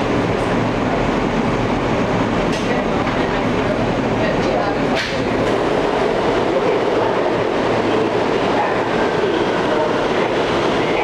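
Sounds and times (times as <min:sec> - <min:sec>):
subway car wheels rumbling: 0:00.0 - 0:11.0.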